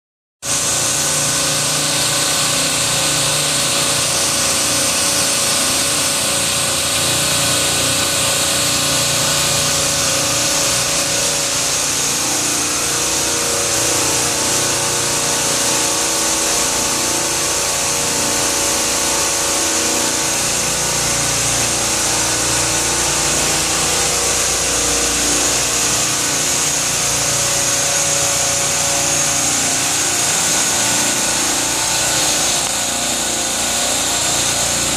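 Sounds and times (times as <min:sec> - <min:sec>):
refrigeration compressors running: 0:00.4 - 0:34.9.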